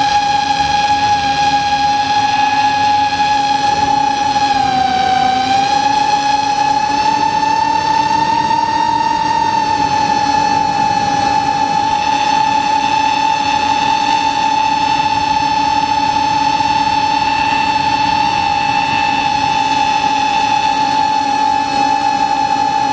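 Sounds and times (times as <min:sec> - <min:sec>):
model airplane motor whine: 0:00.0 - 0:22.9.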